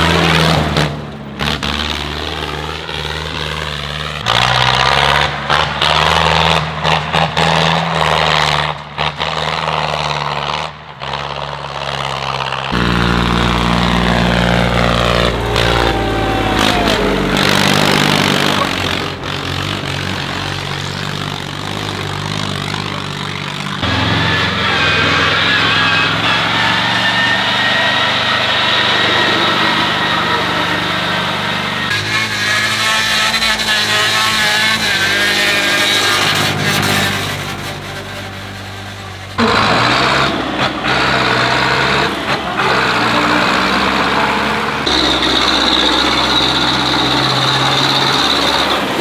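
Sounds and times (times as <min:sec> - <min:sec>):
tractor engines running hard: 0:00.0 - 0:49.0.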